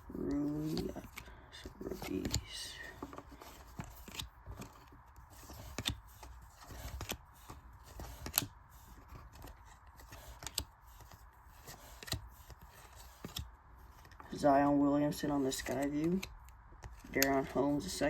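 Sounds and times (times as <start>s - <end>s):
cards rustling: 0.0s - 18.0s
cards clicking and tapping: 0.2s - 14.3s, 15.3s - 18.0s.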